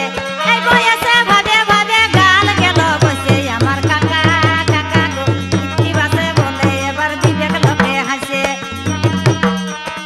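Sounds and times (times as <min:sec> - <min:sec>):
hand-drum strokes: 0:00.0 - 0:10.0.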